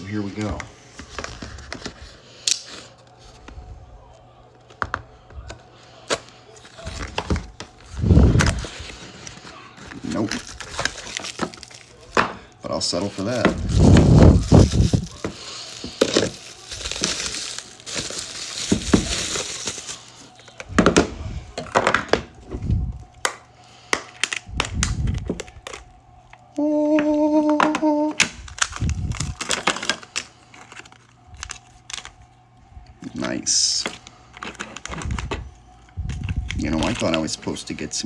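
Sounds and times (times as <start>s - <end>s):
bubble wrap crinkling and tearing: 6.0s - 32.5s, 33.2s - 38.0s.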